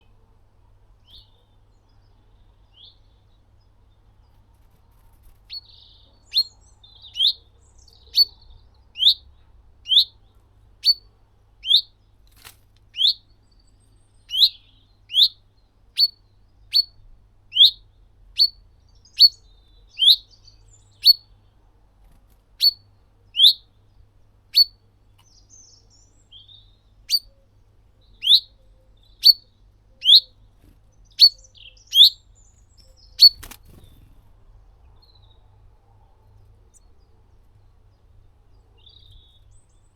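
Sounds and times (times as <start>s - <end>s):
small bird chirping: 1.0s - 35.6s, 36.2s - 39.9s.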